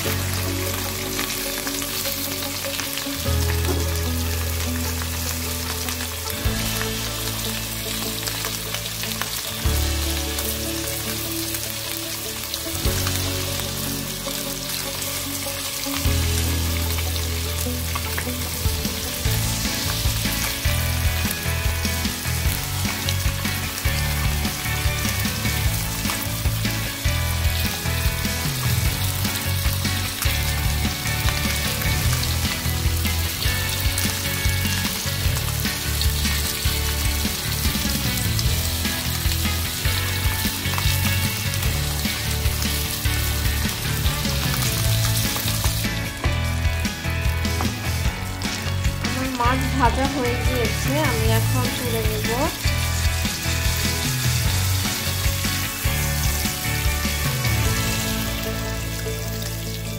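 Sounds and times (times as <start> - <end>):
fish sizzling in oil: 0.0 - 59.9
low musical tones: 0.0 - 59.9.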